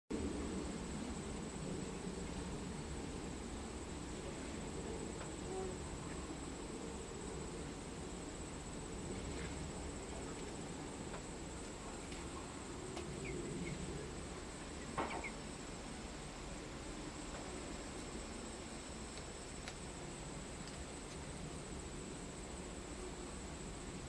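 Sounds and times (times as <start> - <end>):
low background hum: 0.1 - 24.0.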